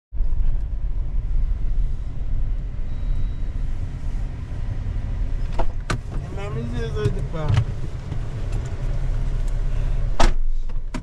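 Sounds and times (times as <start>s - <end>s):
car interior road rumble: 0.1s - 11.0s.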